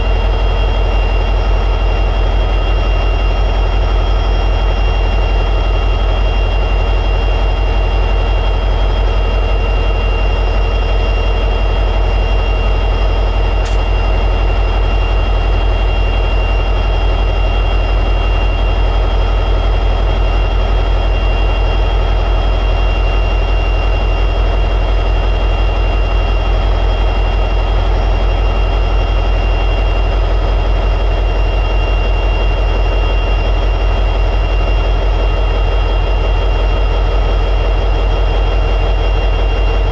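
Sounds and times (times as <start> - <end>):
diesel locomotive engine idling: 0.0 - 39.9
high whine: 0.0 - 39.9.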